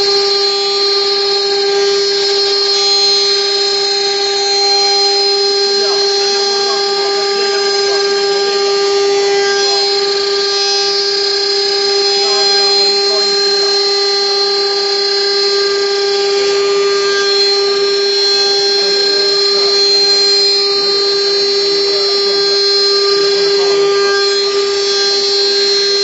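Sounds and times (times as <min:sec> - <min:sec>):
gritty wood cutting noise: 0:00.0 - 0:26.0
router spindle whine: 0:00.0 - 0:26.0.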